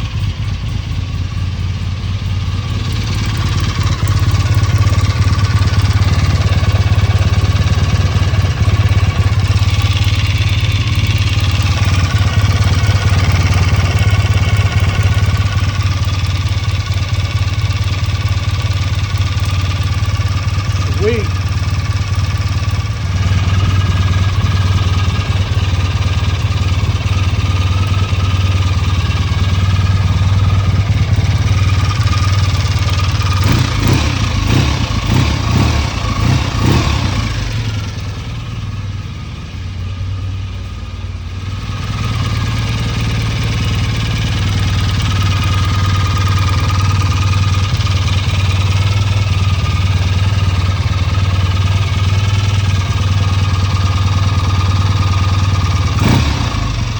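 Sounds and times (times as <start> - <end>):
motorcycle engine idling and revving: 0.0 - 56.9.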